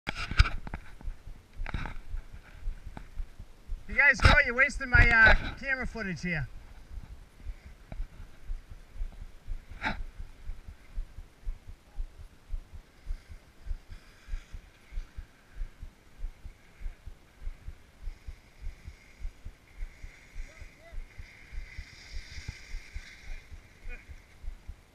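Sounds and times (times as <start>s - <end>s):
low thumps on microphone: 0.1s - 5.6s, 6.5s - 24.9s.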